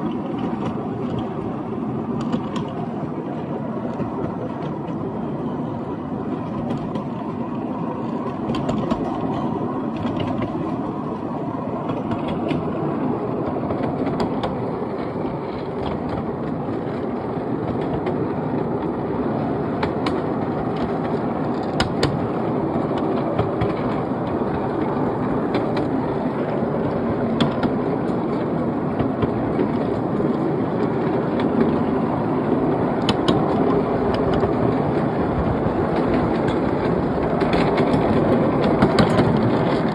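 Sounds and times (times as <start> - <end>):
sharp clicks of train wheels: 0.0 - 3.1, 6.4 - 7.4, 8.0 - 11.2, 11.8 - 39.9
train wheels rumbling on rail: 0.0 - 39.9.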